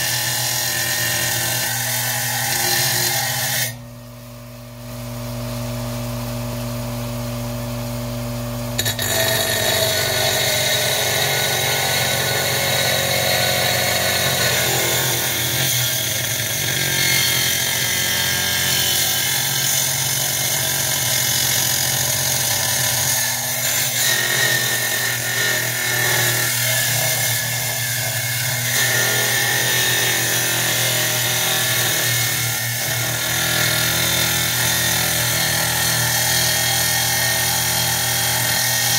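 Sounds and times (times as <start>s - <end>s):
glass saw grinding: 0.0s - 3.8s, 8.8s - 38.9s.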